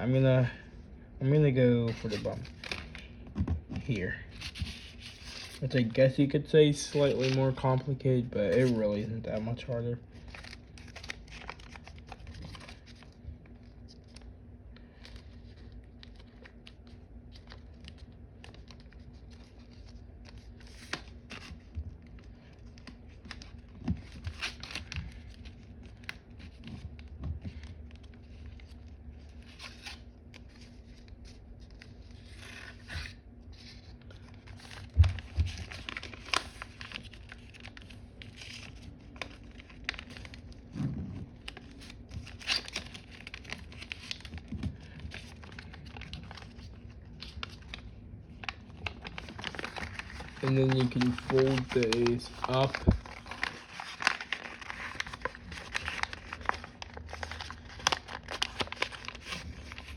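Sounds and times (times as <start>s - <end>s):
paper rustling and crinkling: 1.2s - 59.9s.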